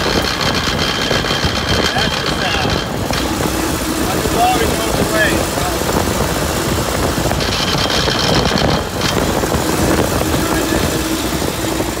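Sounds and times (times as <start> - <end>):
driveline mechanical rumble: 0.0 - 12.0.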